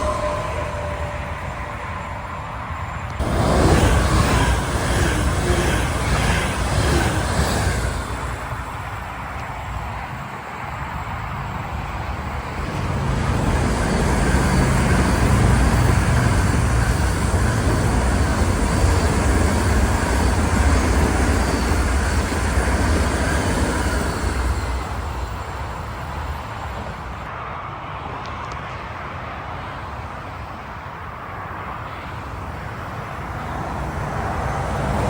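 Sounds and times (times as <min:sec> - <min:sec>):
electric train passing: 0:00.0 - 0:28.6, 0:29.3 - 0:35.0.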